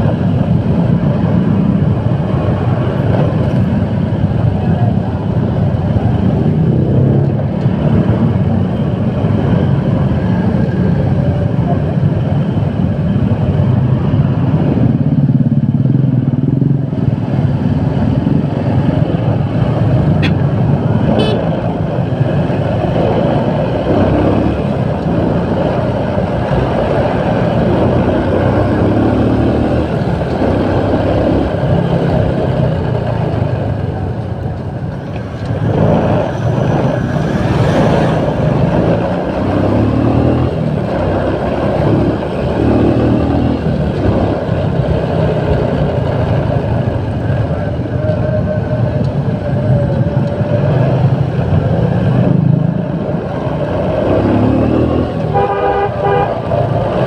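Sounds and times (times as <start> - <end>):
motorcycle engine running: 0.0 - 54.4
road noise: 0.0 - 57.0.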